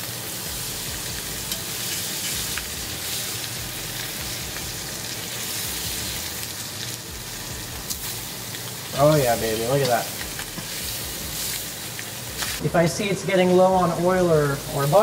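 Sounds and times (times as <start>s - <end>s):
fish sizzling in frying pan: 0.0s - 15.0s.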